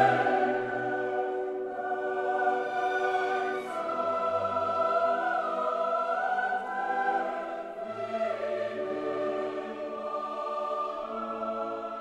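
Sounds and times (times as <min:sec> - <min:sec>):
choir holding long notes: 0:00.0 - 0:12.0.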